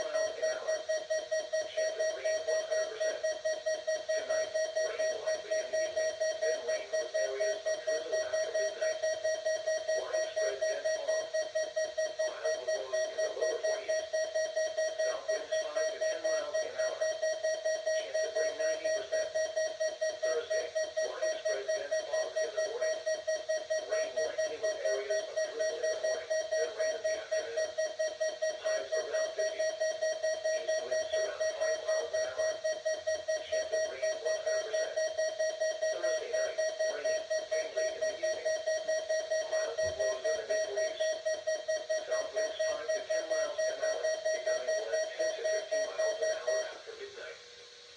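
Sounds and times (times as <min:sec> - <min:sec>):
fast repeated alert beeps: 0:00.0 - 0:47.2.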